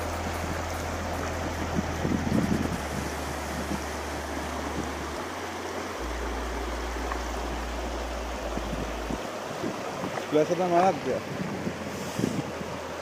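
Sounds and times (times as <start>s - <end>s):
river water rushing over cobbles: 0.0s - 13.0s.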